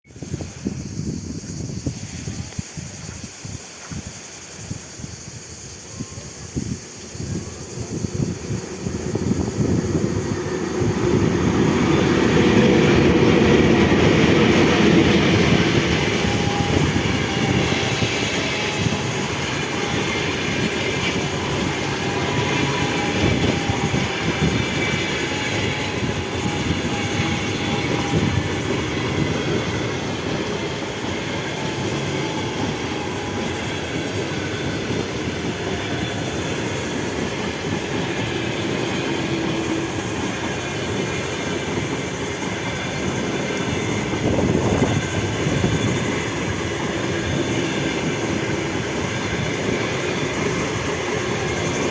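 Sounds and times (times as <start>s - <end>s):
train rolling on rails: 0.0s - 51.9s.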